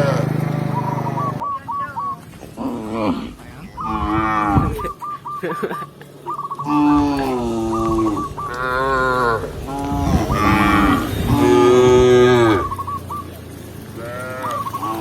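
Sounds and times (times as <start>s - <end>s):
cows mooing: 0.0s - 1.4s, 2.4s - 15.0s.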